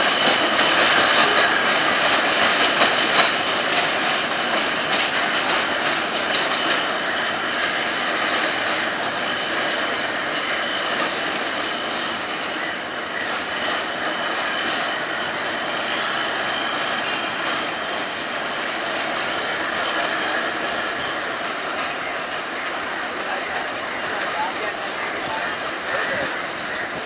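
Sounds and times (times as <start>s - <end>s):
wheels clicking over rail joints: 0.0s - 27.0s.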